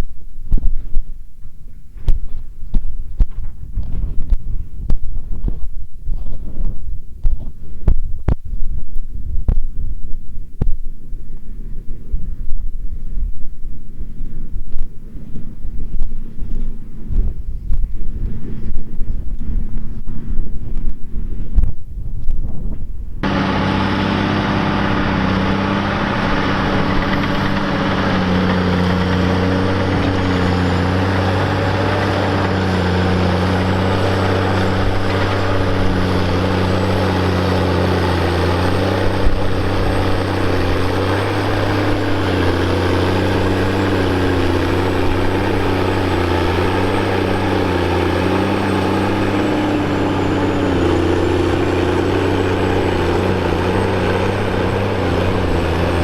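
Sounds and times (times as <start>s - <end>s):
tractor diesel engine running: 0.0s - 21.5s, 23.2s - 56.0s
wind buffeting microphone: 0.0s - 56.0s.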